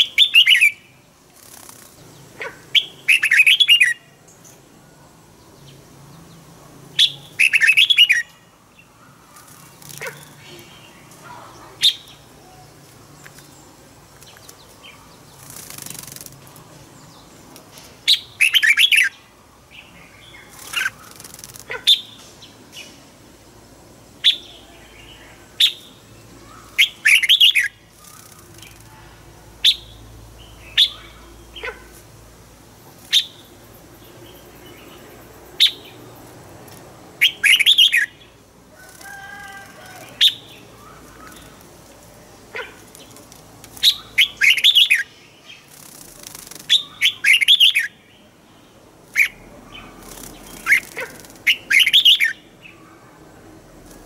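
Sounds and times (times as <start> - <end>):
bird chirping and warbling: 0.0 - 23.0, 24.2 - 32.2, 33.0 - 36.1, 36.7 - 53.1.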